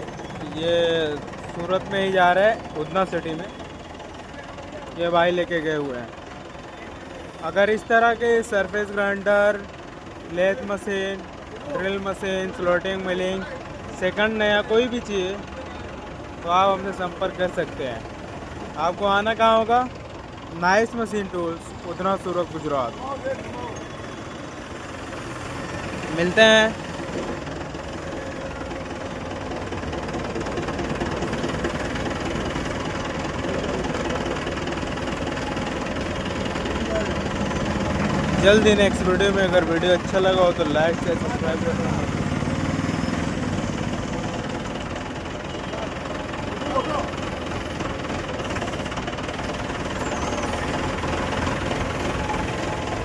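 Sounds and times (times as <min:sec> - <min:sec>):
machine engine running: 0:00.0 - 0:53.0.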